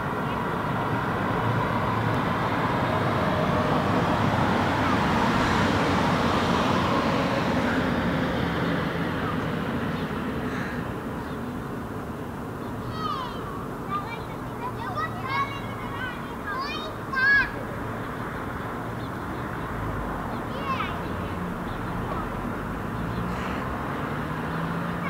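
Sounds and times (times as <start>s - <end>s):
road vehicle passing: 0.0s - 25.0s.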